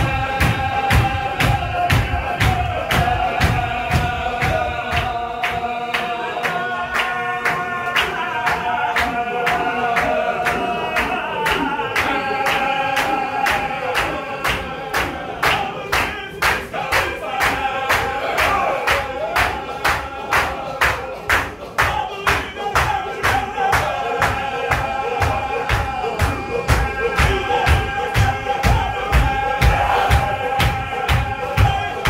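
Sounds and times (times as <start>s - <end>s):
men chanting together: 0.0s - 32.0s
sharp rhythmic beat: 0.0s - 32.0s.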